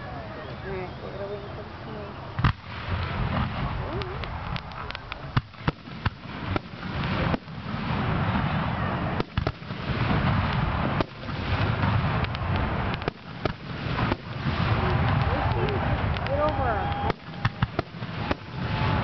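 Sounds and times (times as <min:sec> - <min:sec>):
fireworks bursting: 0:00.0 - 0:19.0
rolling rumble of booms: 0:02.2 - 0:19.0.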